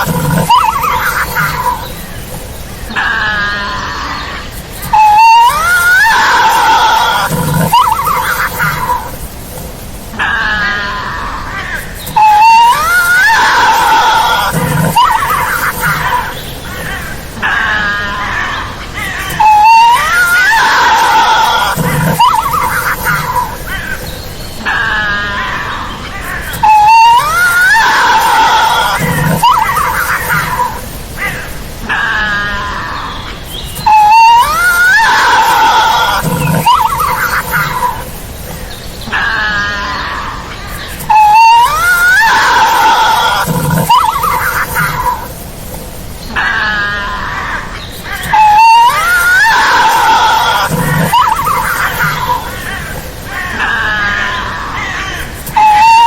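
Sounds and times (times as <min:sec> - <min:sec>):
animal screeching and growling: 0:00.0 - 0:56.0.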